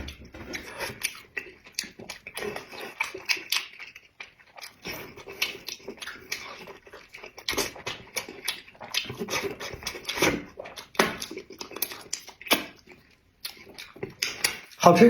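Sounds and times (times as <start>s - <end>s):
person chewing with mouth clicks: 0.0s - 14.8s.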